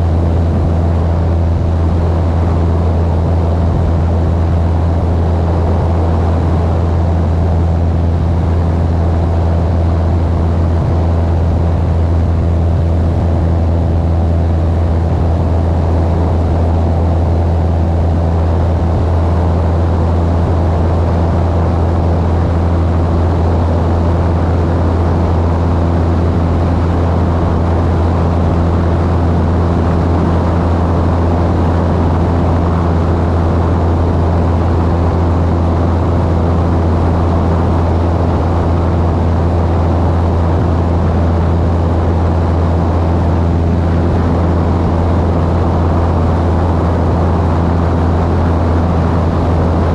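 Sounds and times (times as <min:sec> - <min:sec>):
propeller airplane engine drone: 0:00.0 - 0:49.9.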